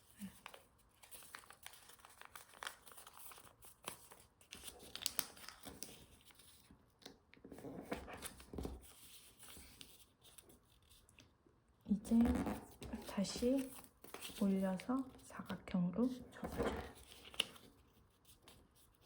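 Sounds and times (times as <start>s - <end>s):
paper rustling and crinkling: 0.0s - 11.3s, 12.0s - 19.0s.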